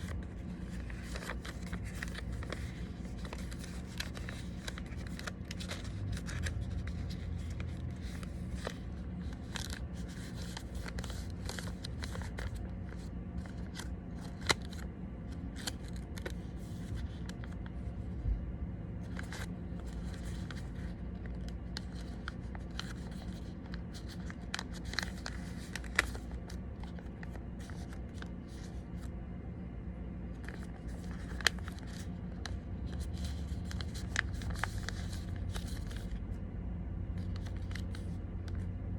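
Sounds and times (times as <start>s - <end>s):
paper being folded and creased: 0.0s - 18.0s, 19.0s - 29.1s, 30.3s - 36.4s, 37.1s - 38.8s
steady low hum: 0.0s - 38.9s.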